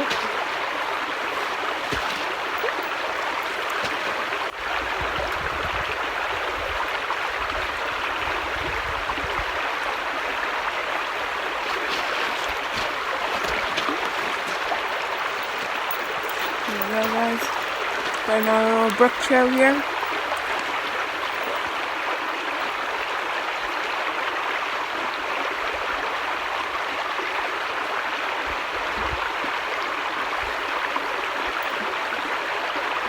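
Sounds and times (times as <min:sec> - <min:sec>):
creek water rushing over rocks: 0:00.0 - 0:33.0.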